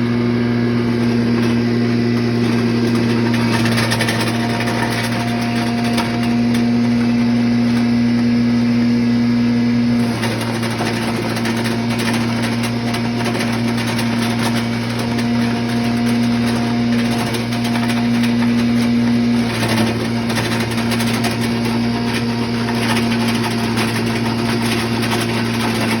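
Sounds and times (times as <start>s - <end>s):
wood chipper grinding: 0.0s - 26.0s.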